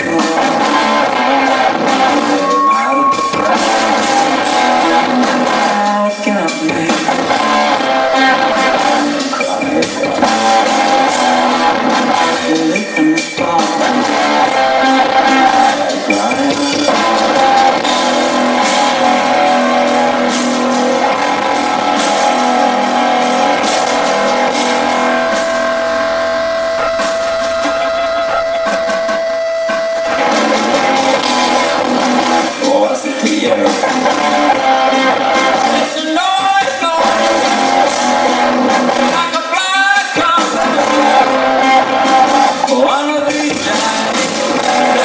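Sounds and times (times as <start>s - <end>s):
distorted electric guitar: 0.0s - 45.0s
drums: 0.0s - 45.0s
live rock band playing: 0.0s - 45.0s.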